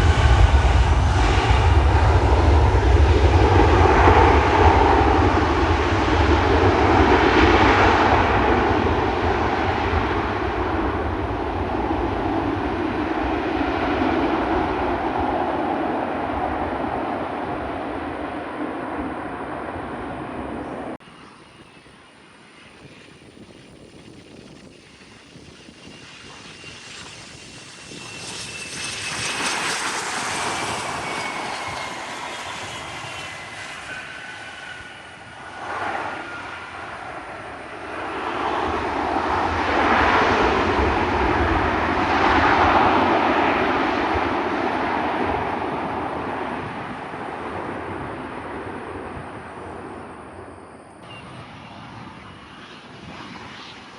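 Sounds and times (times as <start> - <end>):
jet engine rushing roar: 0.0 - 53.9
jet turbine whine: 0.0 - 53.9.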